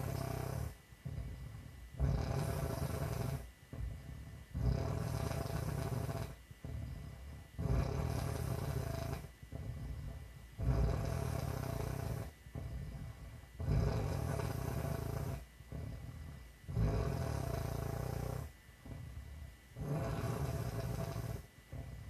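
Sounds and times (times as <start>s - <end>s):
woman snoring: 0.0s - 1.4s, 2.0s - 10.0s, 10.6s - 18.5s, 19.8s - 22.0s.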